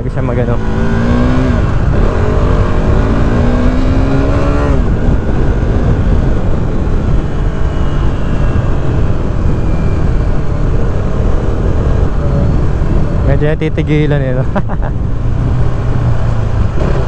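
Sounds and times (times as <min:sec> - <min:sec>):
motorcycle engine revving: 0:00.0 - 0:13.3, 0:14.8 - 0:17.0
wind rush on microphone: 0:00.0 - 0:17.0.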